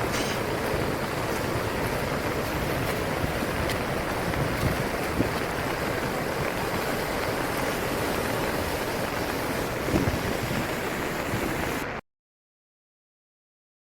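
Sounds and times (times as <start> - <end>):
wind buffeting microphone: 0.0 - 11.9
river rushing: 0.0 - 12.0.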